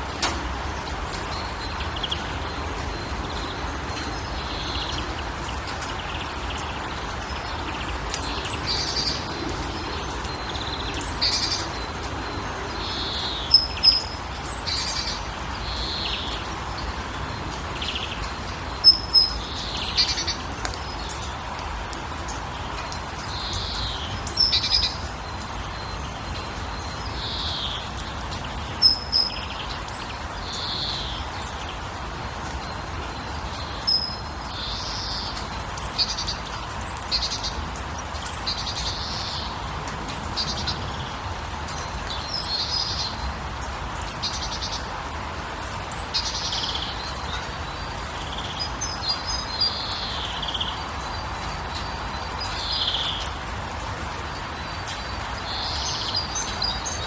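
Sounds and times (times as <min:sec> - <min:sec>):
birds chirping: 0:00.1 - 0:57.0.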